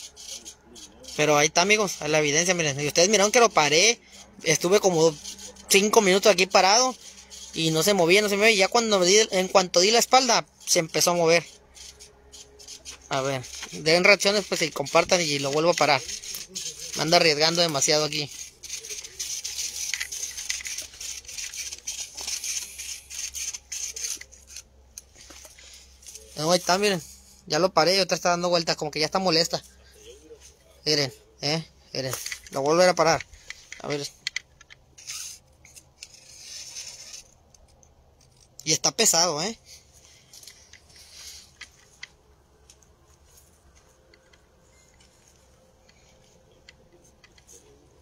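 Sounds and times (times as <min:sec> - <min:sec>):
close rustling and scraping: 0:00.0 - 0:48.0.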